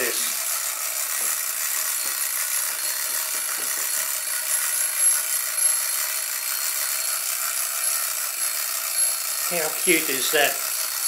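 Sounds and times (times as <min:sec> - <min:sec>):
clockwork toy gears whirring: 0:00.0 - 0:11.0.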